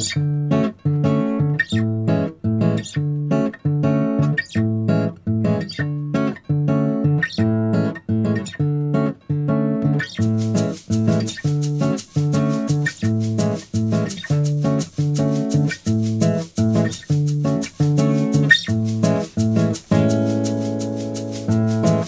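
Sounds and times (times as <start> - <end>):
guitar chords strummed: 0.0 - 22.0.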